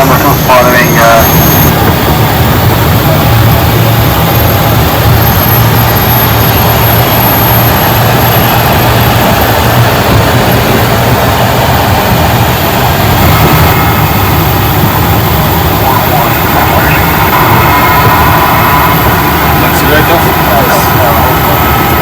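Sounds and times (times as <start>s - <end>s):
jet engines low hum: 0.0s - 22.0s.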